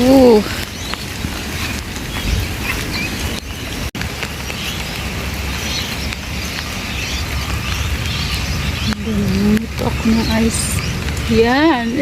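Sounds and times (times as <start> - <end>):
rain and hail pattering: 0.0 - 12.0.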